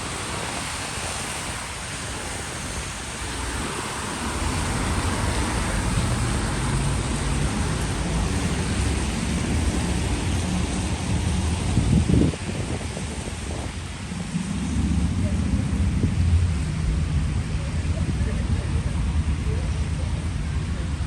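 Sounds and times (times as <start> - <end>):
hiss of rain: 0.0 - 21.0
low vehicle rumble: 0.0 - 21.0
street traffic: 0.0 - 21.0.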